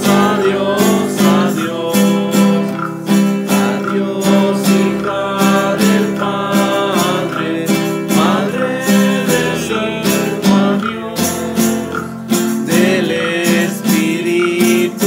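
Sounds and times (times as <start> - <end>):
classical guitar strumming: 0.0 - 15.0.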